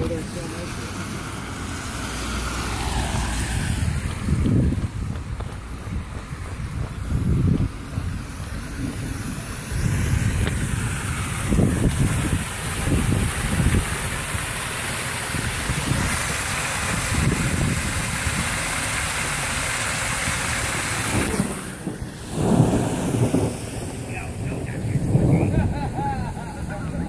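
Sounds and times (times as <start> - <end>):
water pouring into storm drain: 0.0 - 27.0
wind buffeting microphone: 2.6 - 19.0, 20.1 - 27.0.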